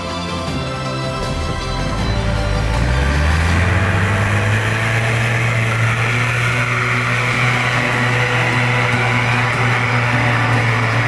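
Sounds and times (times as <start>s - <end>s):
vehicle engine running under load: 0.3s - 11.0s.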